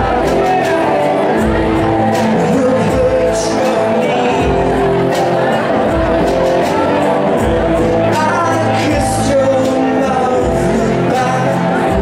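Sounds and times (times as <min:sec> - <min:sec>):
electric guitar: 0:00.0 - 0:12.0
man singing: 0:00.0 - 0:12.0
steady drum beat: 0:00.0 - 0:12.0.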